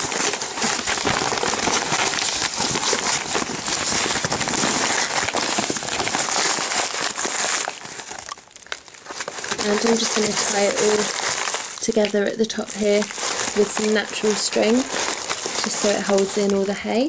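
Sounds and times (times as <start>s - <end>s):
paper crinkling and rustling: 0.0s - 17.0s.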